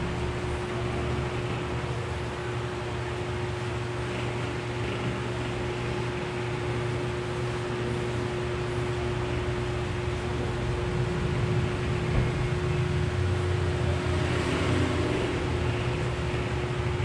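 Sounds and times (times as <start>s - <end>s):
electric fan hiss: 0.0s - 17.0s
low electrical hum: 0.0s - 17.0s.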